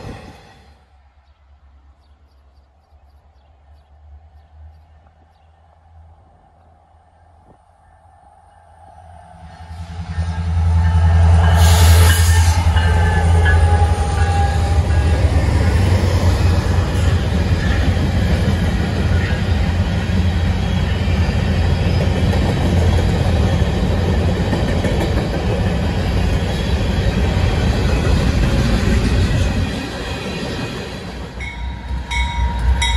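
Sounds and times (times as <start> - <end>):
train wheels on rails: 0.0 - 1.0, 2.7 - 32.9
diesel locomotive engines humming: 2.7 - 32.9.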